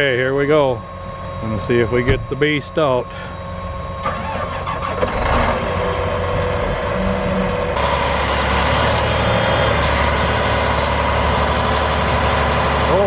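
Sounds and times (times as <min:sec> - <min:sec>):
tractor diesel engines under load: 0:00.0 - 0:13.0.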